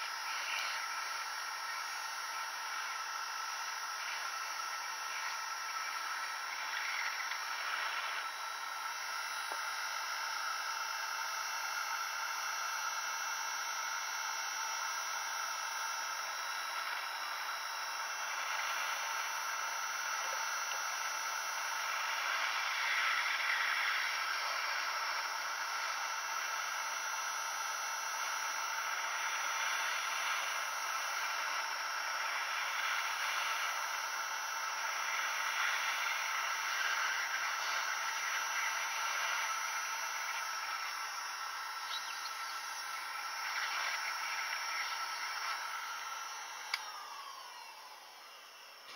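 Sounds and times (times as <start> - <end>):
faint fan whir: 0.0 - 48.9
hot air gun hissing: 0.0 - 48.9.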